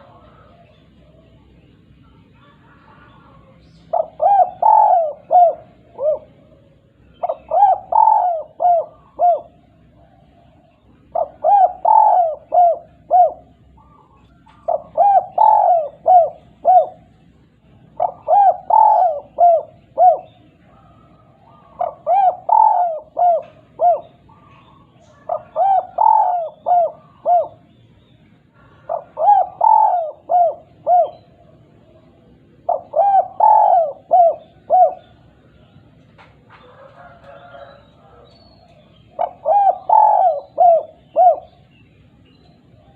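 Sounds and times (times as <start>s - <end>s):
dove cooing: 0.0s - 42.9s.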